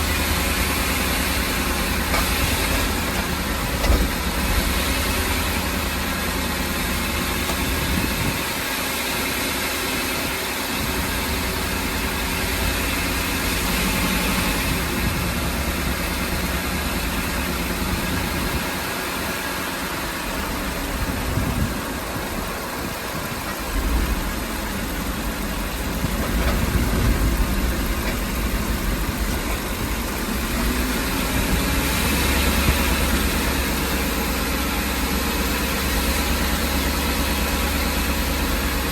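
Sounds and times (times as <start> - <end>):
engine idling with low rumble: 0.0 - 38.9.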